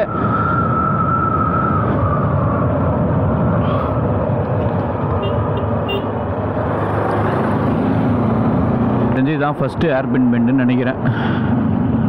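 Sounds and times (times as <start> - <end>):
rushing wind noise: 0.0 - 10.3, 10.9 - 12.0.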